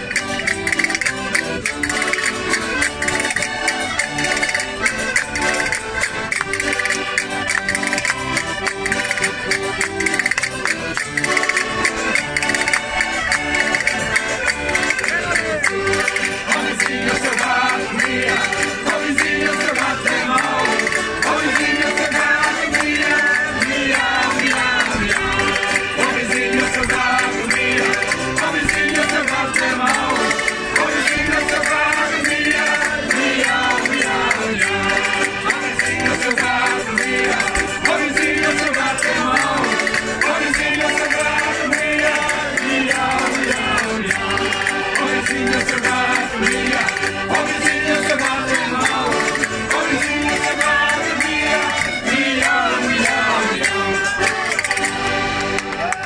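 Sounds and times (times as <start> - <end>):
wooden scraper rhythm: 0.0 - 55.7
hand percussion: 0.0 - 56.0
instrumental accompaniment: 0.0 - 56.0
voices singing: 0.0 - 56.0.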